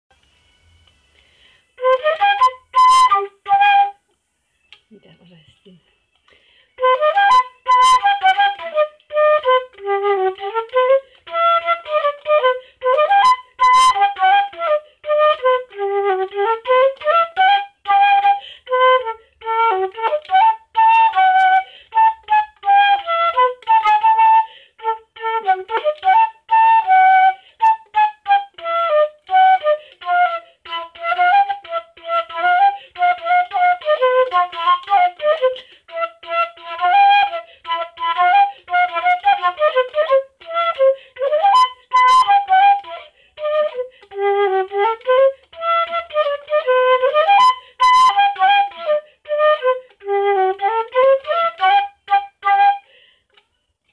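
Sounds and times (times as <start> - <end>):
solo flute tune: 0.1 - 53.7.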